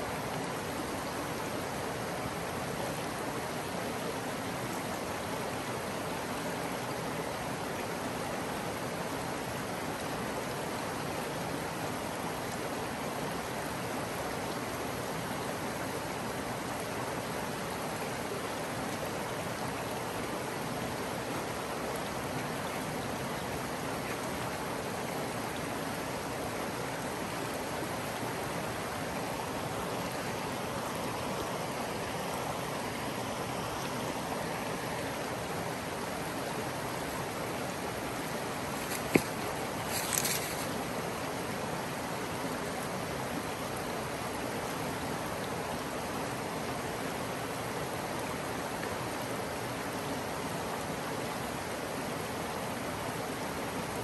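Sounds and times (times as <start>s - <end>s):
creek water flowing: 0.0s - 54.0s.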